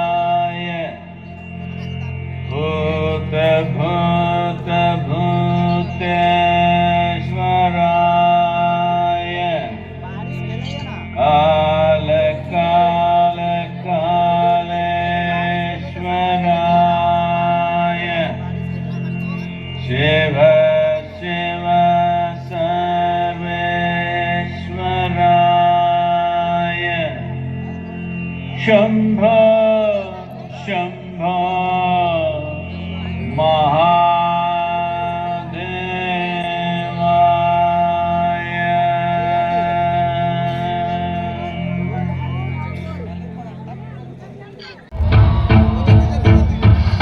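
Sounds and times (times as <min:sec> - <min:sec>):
person chanting long notes: 0:00.0 - 0:47.0
steady drone: 0:00.0 - 0:47.0.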